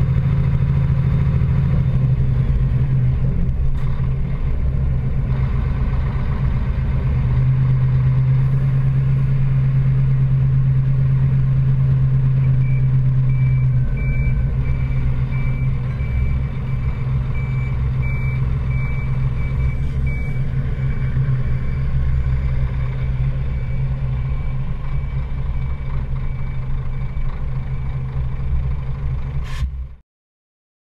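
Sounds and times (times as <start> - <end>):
lorry engine humming: 0.0 - 30.0.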